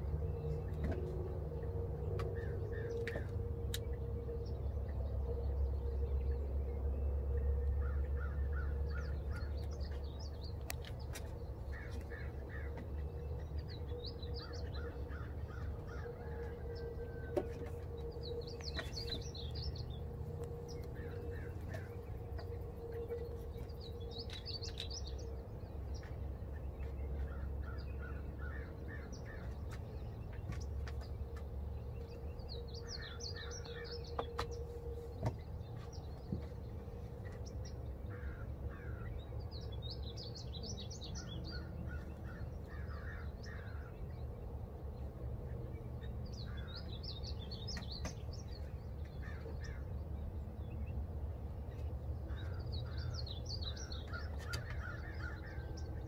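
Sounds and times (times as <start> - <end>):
low background rumble: 0.0 - 56.0
songbird chirping: 0.0 - 56.0.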